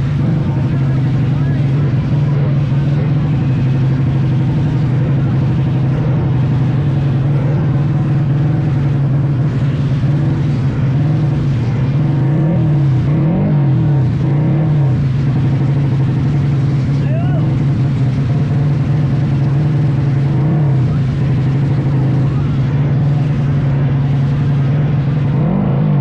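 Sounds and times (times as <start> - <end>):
motorcycle engine revving high: 0.0 - 26.0.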